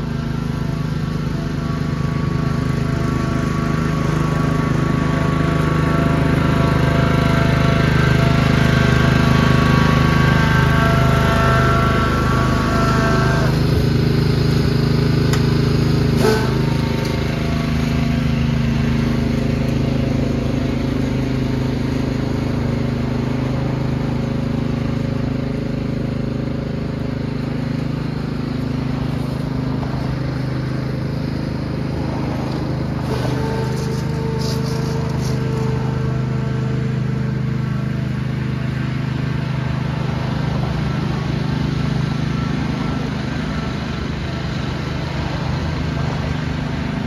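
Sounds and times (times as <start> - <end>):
garden tractor engine running: 0.0 - 47.0.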